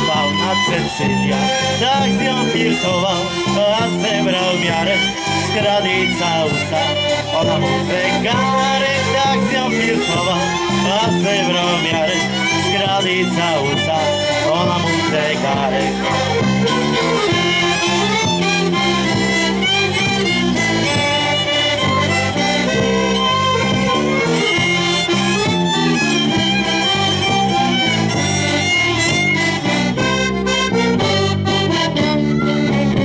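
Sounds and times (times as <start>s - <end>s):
accordions: 0.0s - 33.0s
bass drum and cymbal beat: 0.0s - 33.0s
bass guitar: 0.0s - 33.0s
fiddle: 0.0s - 33.0s.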